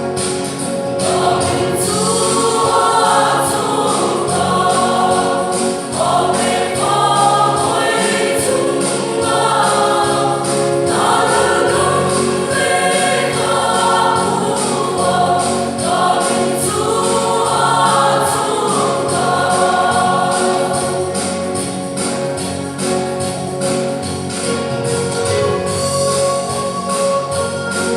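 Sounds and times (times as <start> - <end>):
choir singing gospel: 0.0 - 27.9
percussion beat: 0.0 - 27.9.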